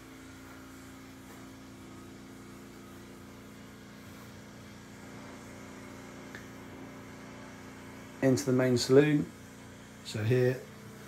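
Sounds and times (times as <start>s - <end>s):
low machinery hum with tones: 0.0s - 11.0s.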